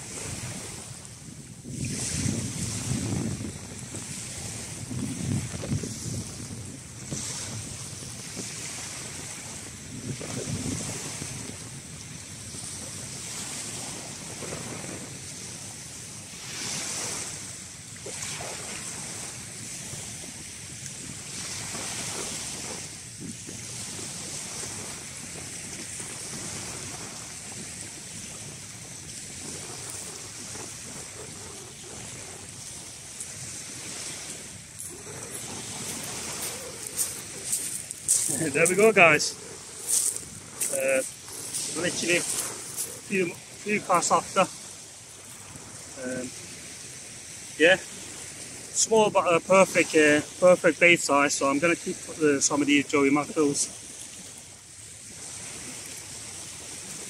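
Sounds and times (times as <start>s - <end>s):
wind buffeting microphone: 0.0s - 48.8s
waves washing onto shingle: 0.0s - 57.0s.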